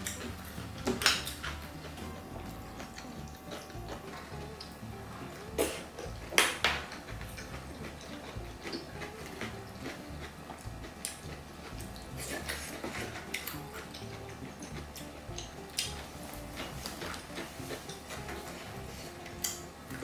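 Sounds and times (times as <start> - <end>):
utensils clicking on a plate: 0.0 - 4.8, 5.6 - 20.0
noodles chewed and slurped: 0.0 - 20.0.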